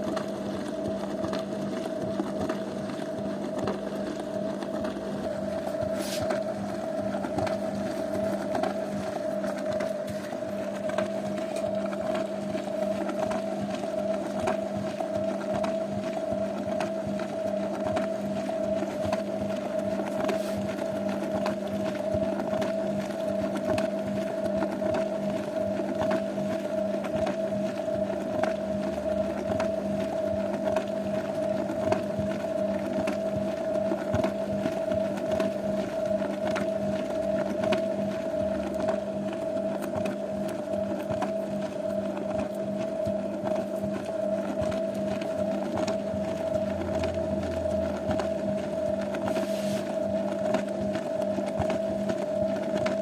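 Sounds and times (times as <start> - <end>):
washing machine motor hum: 0.0 - 53.0.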